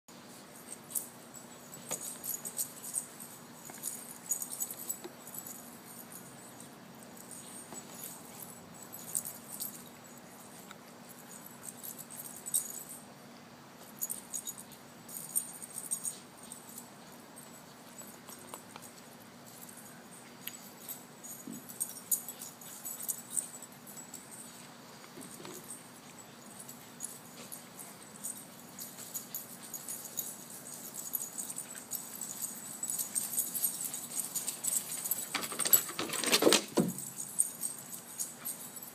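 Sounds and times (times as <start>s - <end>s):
faint steady hum: 0.1s - 38.9s
metallic jingling and rattling: 0.3s - 13.1s, 13.9s - 38.9s.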